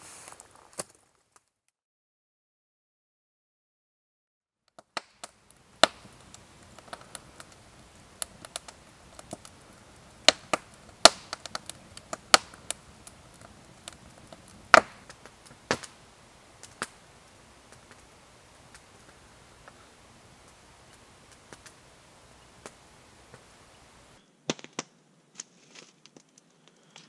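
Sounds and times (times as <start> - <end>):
faint hiss: 0.0 - 0.9, 5.0 - 27.0
campfire crackling and popping: 4.7 - 27.0.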